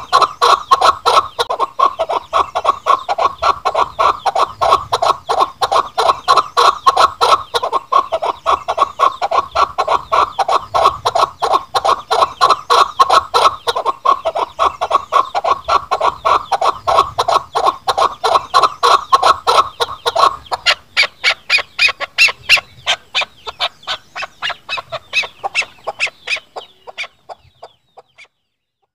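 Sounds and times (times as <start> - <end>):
partridge clucking call: 0.0 - 28.9.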